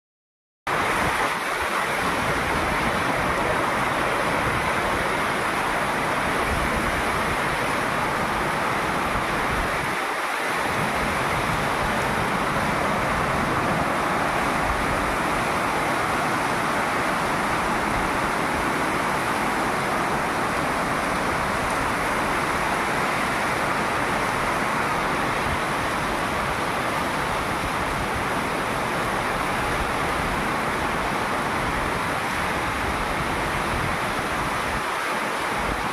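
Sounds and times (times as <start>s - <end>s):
heavy rain pouring: 0.7s - 35.9s
strong wind gusts: 0.7s - 35.9s.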